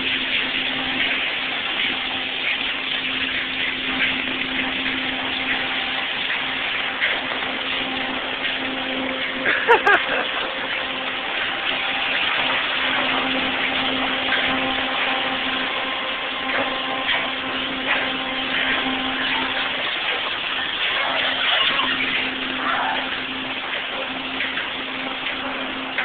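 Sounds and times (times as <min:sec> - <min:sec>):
steady machine hum: 0:00.0 - 0:26.0
water spraying: 0:00.0 - 0:26.0.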